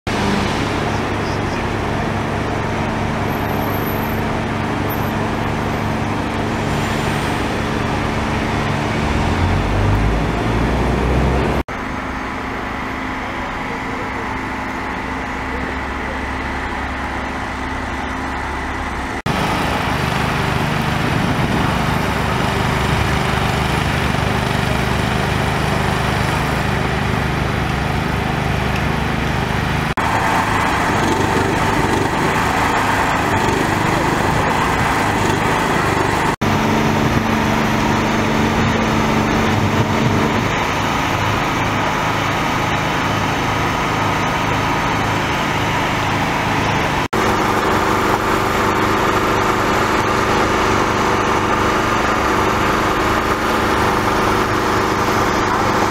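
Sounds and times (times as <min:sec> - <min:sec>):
street traffic: 0:00.0 - 0:55.9
small petrol engine running: 0:00.1 - 0:55.9.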